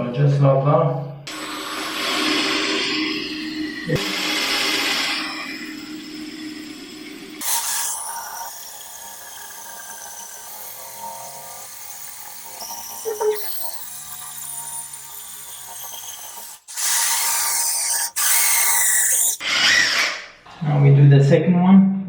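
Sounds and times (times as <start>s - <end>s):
power drill boring into tile: 1.3s - 20.3s.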